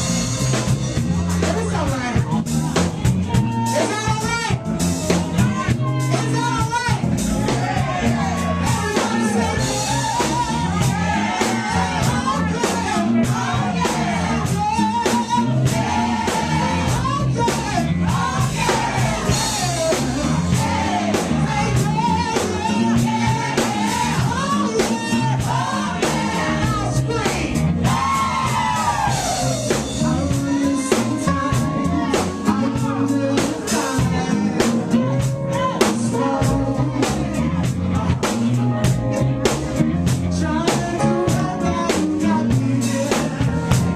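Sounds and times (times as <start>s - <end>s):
funk band playing: 0.0s - 43.9s
person singing: 3.4s - 39.3s, 40.2s - 43.9s.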